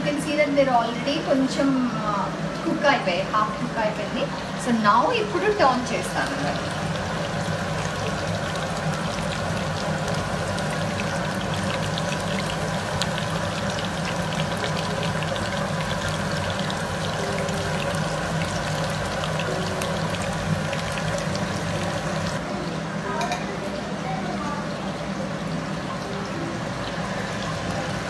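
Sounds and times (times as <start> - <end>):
chicken deep-frying in oil: 0.0 - 28.0.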